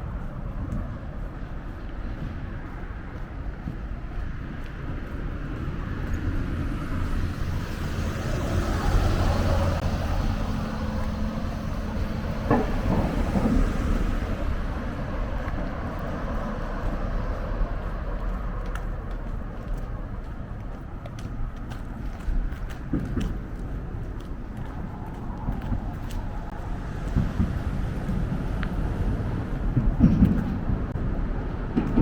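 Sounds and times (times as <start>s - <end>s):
low traffic rumble: 0.0s - 32.0s
vehicle passing: 0.0s - 32.0s.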